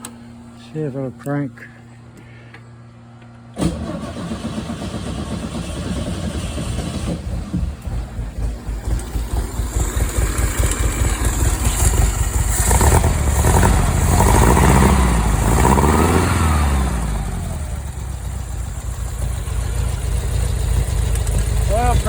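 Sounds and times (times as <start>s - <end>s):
dune buggy engine idling and revving: 4.2s - 22.0s.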